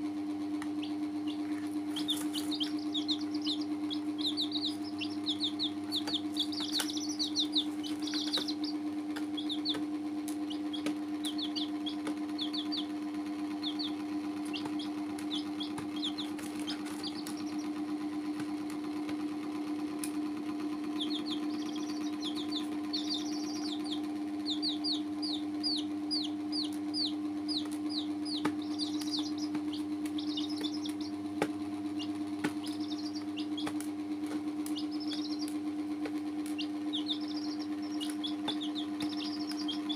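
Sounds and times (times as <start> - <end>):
steady low hum: 0.0 - 39.9
baby chicks peeping: 0.2 - 39.9.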